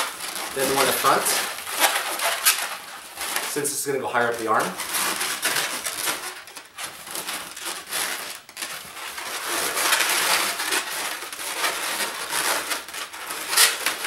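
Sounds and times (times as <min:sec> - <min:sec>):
balloons rubbing and squeaking: 0:00.0 - 0:14.0.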